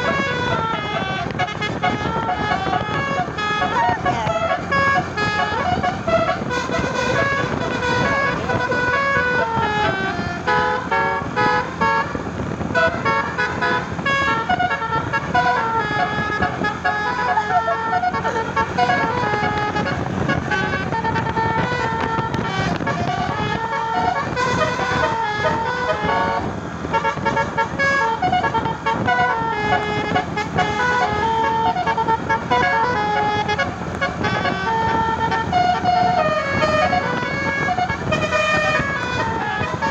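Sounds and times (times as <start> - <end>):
engine and road rumble: 0.0 - 39.9
musical air horn melody: 0.0 - 39.9.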